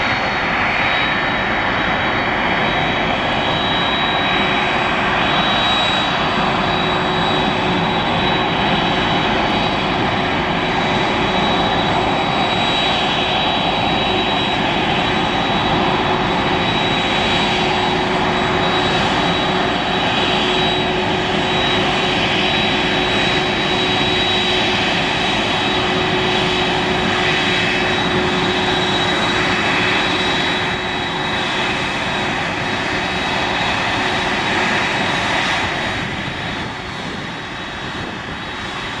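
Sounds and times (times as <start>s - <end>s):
jet engines roaring with whine: 0.0s - 39.0s.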